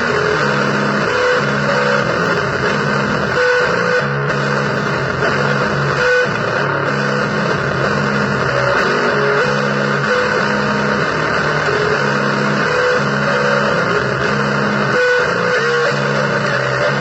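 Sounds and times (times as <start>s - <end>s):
distorted electric guitar noise music: 0.0s - 17.0s.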